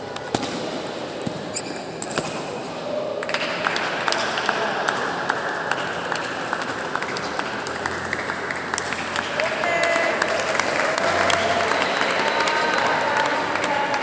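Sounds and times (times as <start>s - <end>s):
murmur of a hall: 0.0s - 14.0s.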